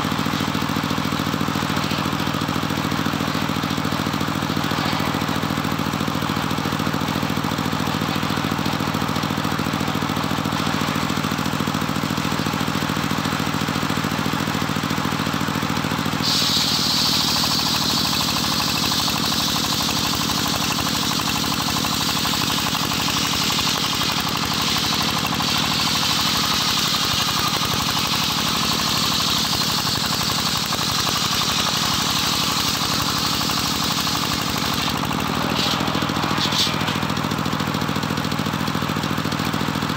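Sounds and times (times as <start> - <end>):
saw blade cutting wood: 0.0 - 38.3
engine running: 0.0 - 39.9.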